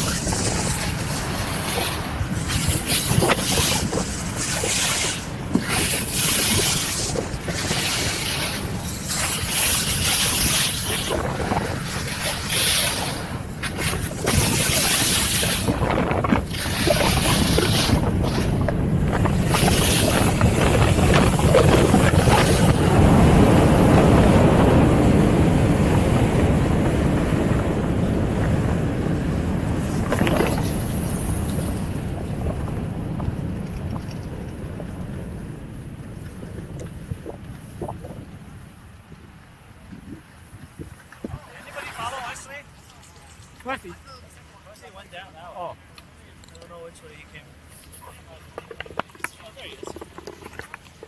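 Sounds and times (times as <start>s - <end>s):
wind buffeting microphone: 0.0s - 42.7s
steady rushing noise: 0.0s - 51.0s.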